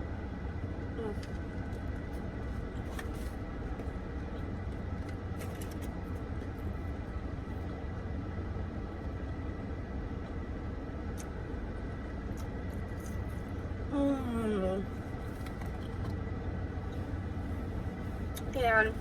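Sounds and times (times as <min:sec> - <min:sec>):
car air conditioning hum: 0:00.0 - 0:19.0
faint steady whine: 0:00.0 - 0:19.0.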